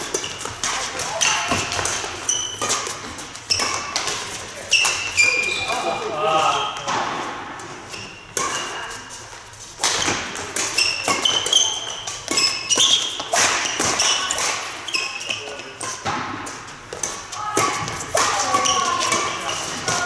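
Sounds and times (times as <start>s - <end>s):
racket hitting shuttlecock: 0.0s - 6.0s, 6.8s - 8.8s, 9.8s - 20.0s
shoes squeaking on floor: 0.0s - 20.0s.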